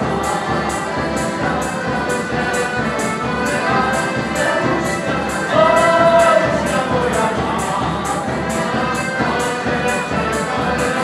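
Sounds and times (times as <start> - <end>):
folk band playing dance music: 0.0 - 11.0
guitar: 0.0 - 11.0.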